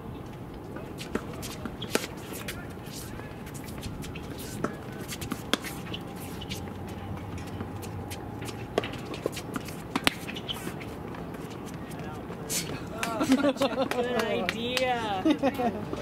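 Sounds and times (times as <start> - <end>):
low background noise: 0.0 - 16.0
tennis balls being struck: 0.8 - 14.9.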